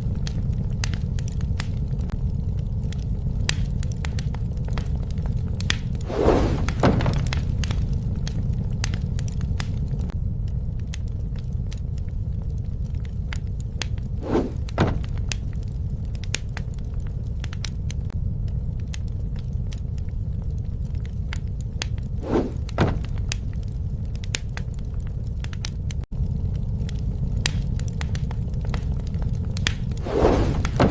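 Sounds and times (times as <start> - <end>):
fire popping: 0.0 - 30.9
wood fire crackling: 0.0 - 30.9.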